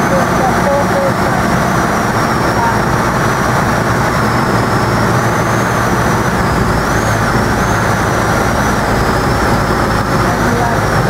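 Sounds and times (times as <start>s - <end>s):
faint high wavering whine: 0.0s - 11.0s
light aircraft engine and propeller: 0.0s - 11.0s.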